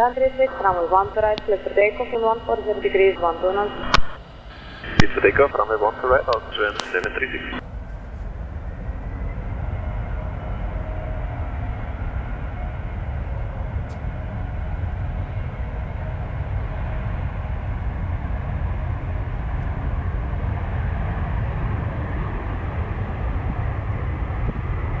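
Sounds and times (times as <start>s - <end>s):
jet engine whine: 0.0s - 25.0s
jet engines rumbling: 0.0s - 25.0s.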